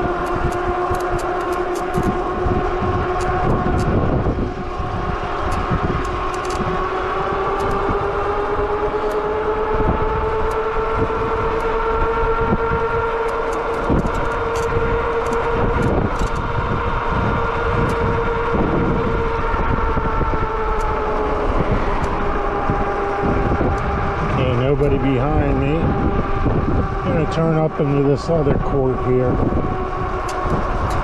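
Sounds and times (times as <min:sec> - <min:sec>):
e-bike motor whine: 0:00.0 - 0:31.0
wind on microphone: 0:00.0 - 0:31.0.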